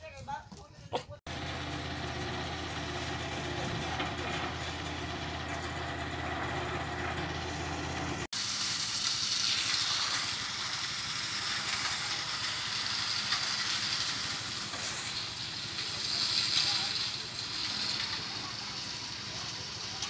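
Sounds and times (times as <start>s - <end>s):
cement mixer engine running: 1.3s - 20.0s.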